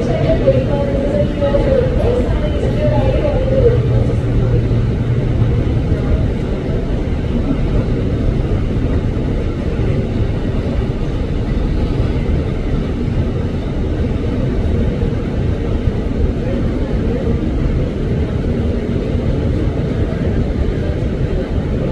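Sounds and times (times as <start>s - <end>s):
jet engines rumbling: 0.0s - 21.9s.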